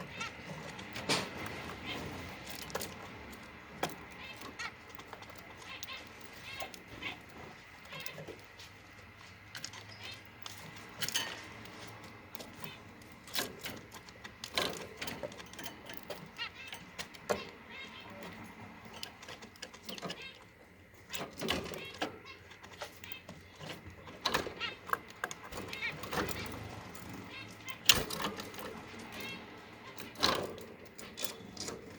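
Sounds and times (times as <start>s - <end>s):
beak pecking at dish: 0.0s - 31.9s.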